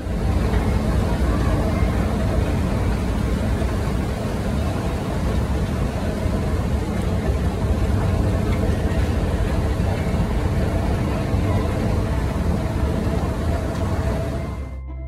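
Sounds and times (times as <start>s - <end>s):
murmur of distant voices: 0.0s - 14.8s
faint steady hum: 0.0s - 14.9s
low background rumble: 0.0s - 15.0s.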